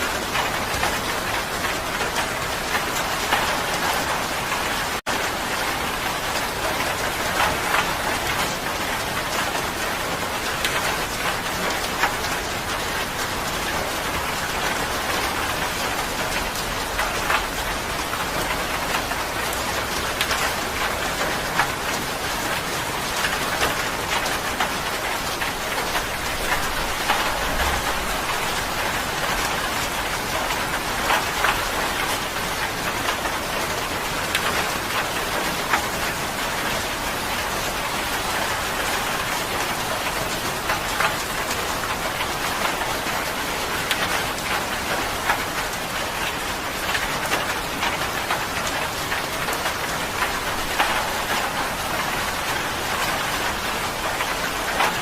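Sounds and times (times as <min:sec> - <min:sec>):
raindrops pattering: 0:00.0 - 0:55.0
steady rain falling: 0:00.0 - 0:55.0.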